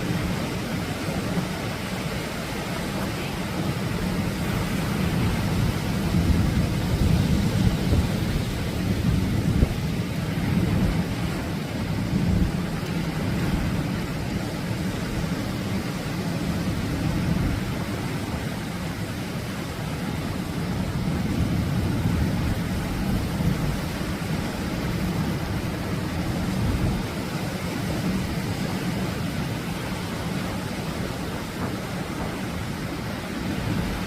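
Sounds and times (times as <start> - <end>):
surf breaking on a beach: 0.0 - 34.0.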